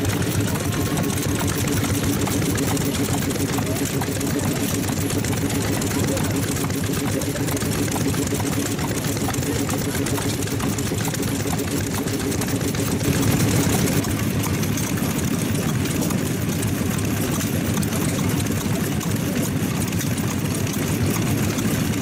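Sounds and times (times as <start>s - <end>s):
stationary engines running: 0.0s - 22.0s.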